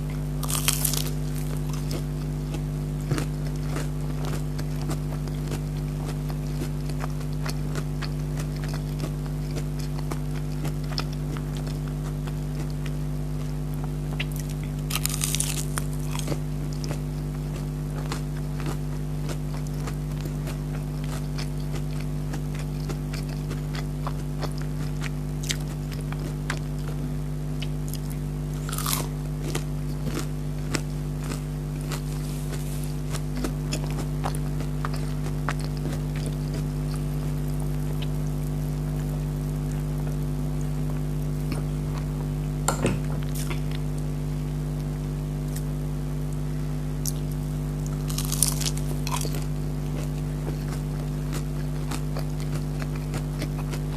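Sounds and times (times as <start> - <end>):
chewing crispy chicken nuggets: 0.0 - 42.4, 47.0 - 53.9
steady low hum: 0.0 - 53.9.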